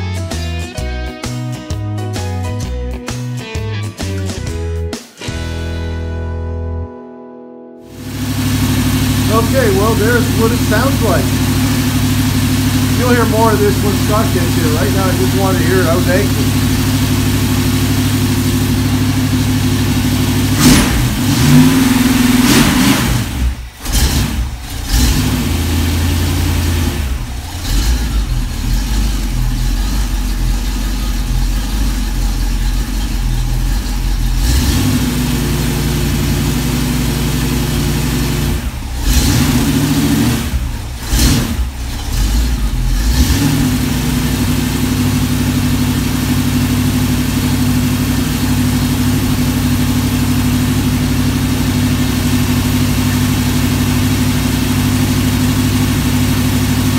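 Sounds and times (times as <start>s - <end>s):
engine idling through mufflers: 7.9s - 56.9s.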